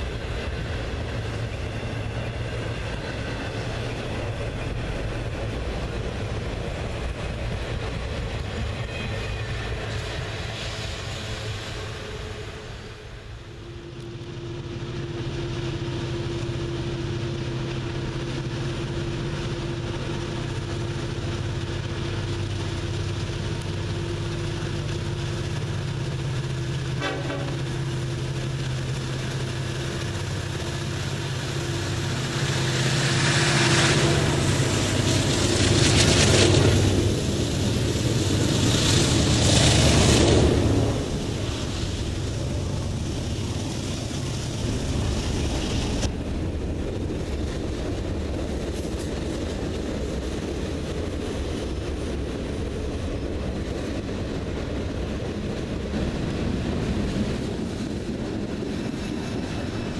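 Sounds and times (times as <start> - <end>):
diesel locomotive engine drone: 0.0 - 59.9
freight cars rumbling past: 0.0 - 59.9.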